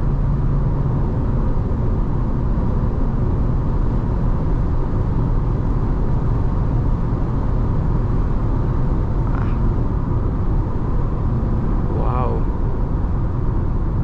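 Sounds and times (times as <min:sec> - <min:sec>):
car driving at highway speed: 0:00.0 - 0:14.0.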